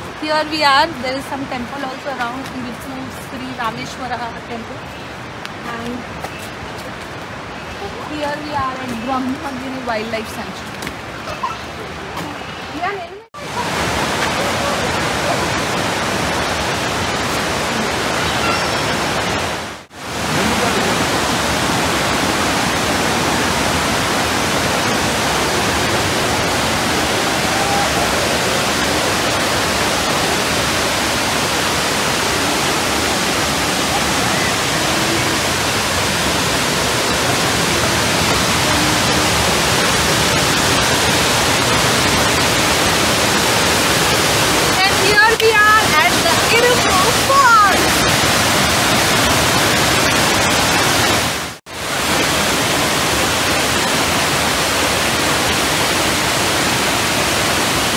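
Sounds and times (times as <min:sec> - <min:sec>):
waterfall rushing water: 0:00.0 - 0:57.9.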